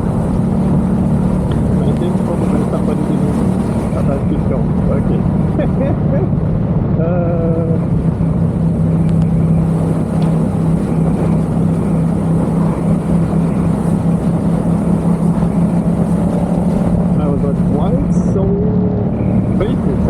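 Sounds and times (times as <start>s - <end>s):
motorcycle engine cruising: 0.0s - 20.0s
wind rush: 0.0s - 20.0s.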